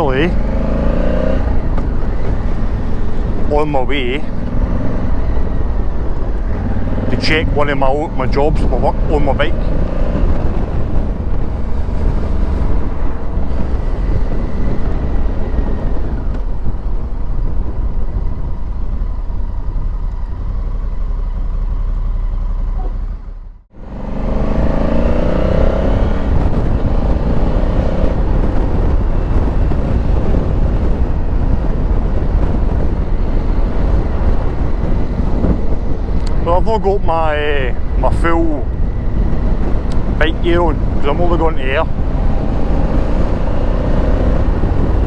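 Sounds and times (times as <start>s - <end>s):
motorcycle engine running: 0.0s - 45.0s
wind and road noise: 0.0s - 45.0s.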